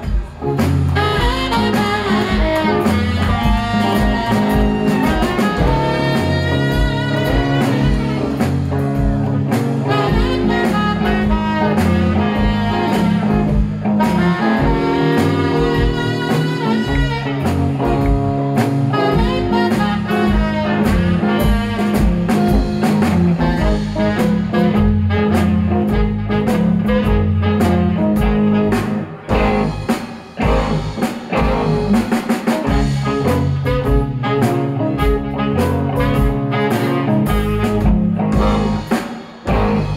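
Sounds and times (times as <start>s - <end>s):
drum kit: 0.0s - 39.9s
electric guitars: 0.0s - 39.9s
tenor saxophone lead: 0.4s - 39.9s.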